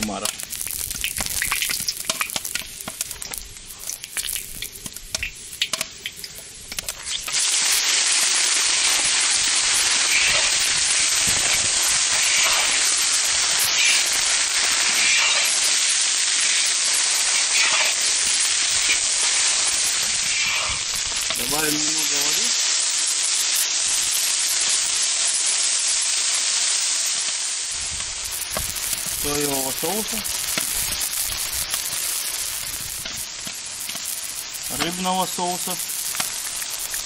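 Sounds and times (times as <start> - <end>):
food sizzling in hot oil: 0.0 - 37.0.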